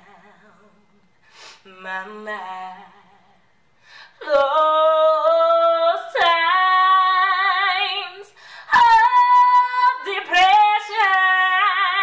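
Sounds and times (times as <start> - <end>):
woman singing unaccompanied: 1.6 - 3.4, 4.1 - 12.0.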